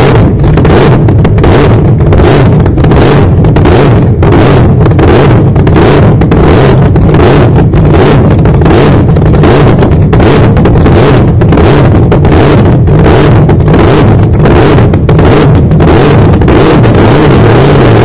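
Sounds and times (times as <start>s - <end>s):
dragster engine idling loudly: 0.0s - 18.0s.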